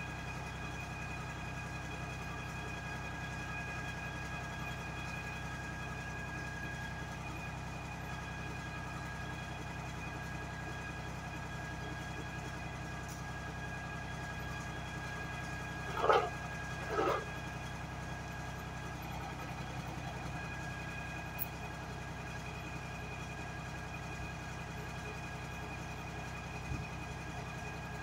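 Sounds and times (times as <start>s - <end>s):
engine and pump humming: 0.0s - 28.0s.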